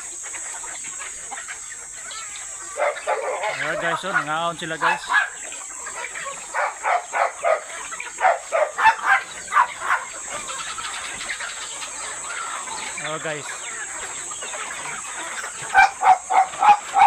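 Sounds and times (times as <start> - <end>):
chickens clucking: 0.0 - 17.0
steady background hiss: 0.0 - 17.0.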